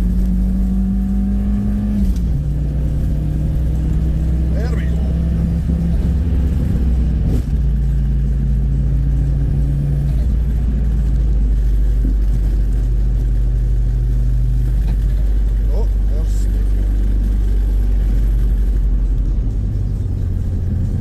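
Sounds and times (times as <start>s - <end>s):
engine and road drone in cabin: 0.0s - 21.0s.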